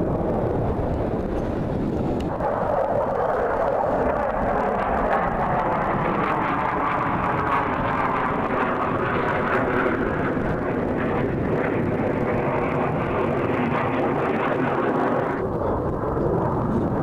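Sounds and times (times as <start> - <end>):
aircraft engine: 0.0 - 17.0.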